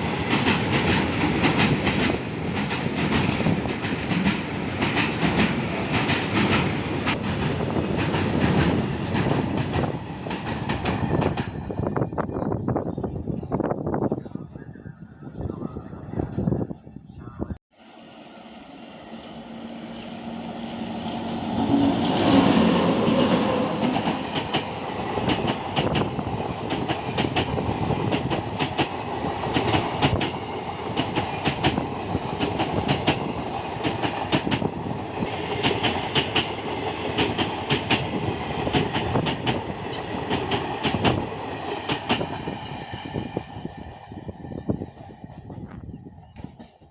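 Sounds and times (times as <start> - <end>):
train passing at speed: 0.0 - 14.7, 17.7 - 46.9.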